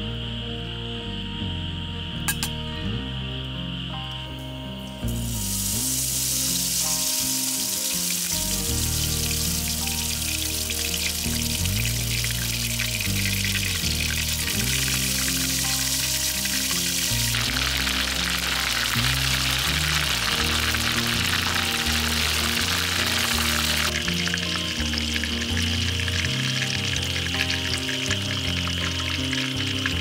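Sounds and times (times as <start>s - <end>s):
background music: 0.0s - 30.0s
oil sizzling while deep-frying: 4.8s - 30.0s.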